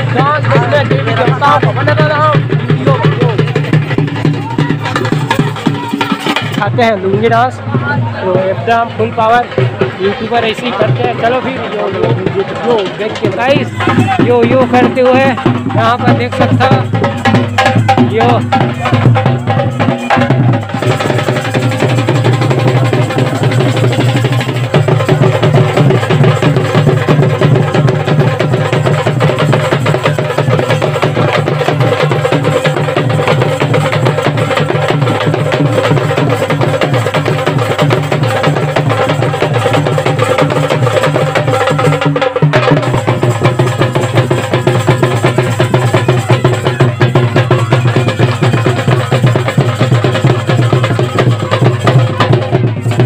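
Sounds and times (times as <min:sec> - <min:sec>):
folk drums beaten in fast rhythm: 0:00.0 - 0:53.0.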